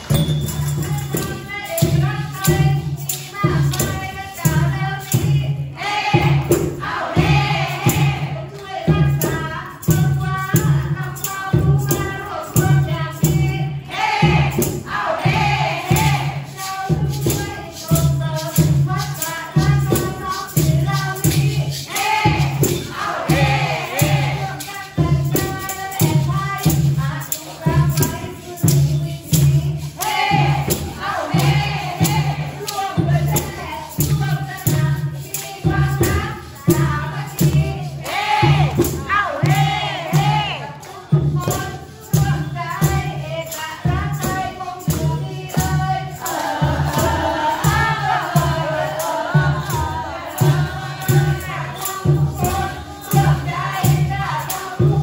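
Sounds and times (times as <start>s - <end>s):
maraca shaking: 0.0s - 55.0s
people singing along: 0.0s - 55.0s
women singing into a microphone: 0.0s - 55.0s.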